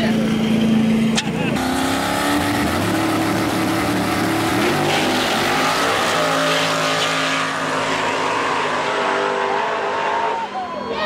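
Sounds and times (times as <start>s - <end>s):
race car engines at full throttle: 0.0s - 11.0s.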